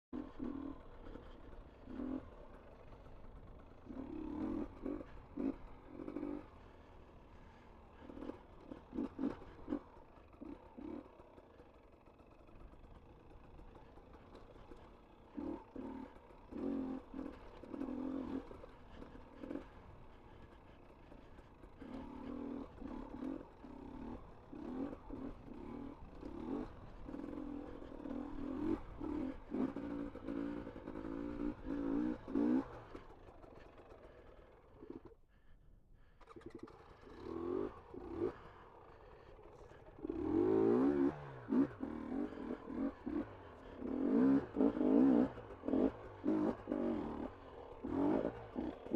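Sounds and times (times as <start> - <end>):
motorcycle engine revving: 0.2 - 48.9
rider heavy breathing: 0.8 - 48.9.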